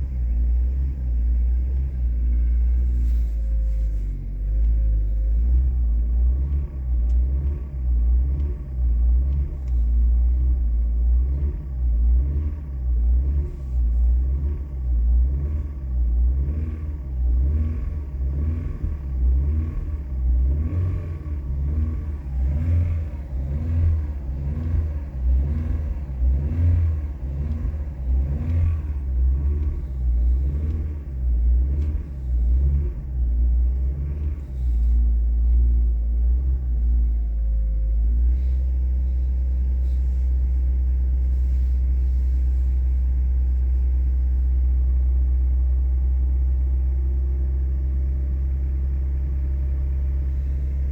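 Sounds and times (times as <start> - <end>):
car engine revving and idling: 0.0 - 50.9.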